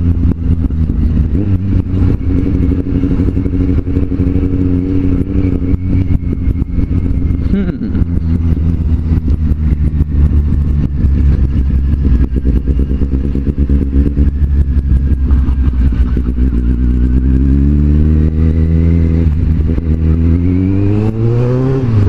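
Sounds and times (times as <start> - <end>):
motorcycle engine accelerating: 0.0 - 22.0
wind noise: 0.0 - 22.0.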